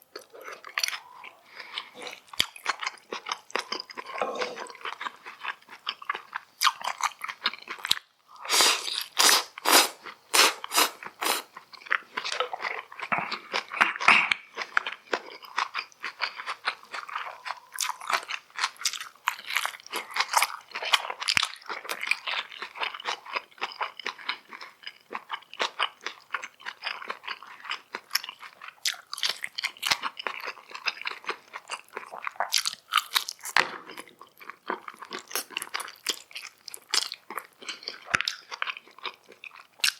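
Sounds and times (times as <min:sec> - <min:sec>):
crunchy chewing: 0:00.1 - 0:39.9.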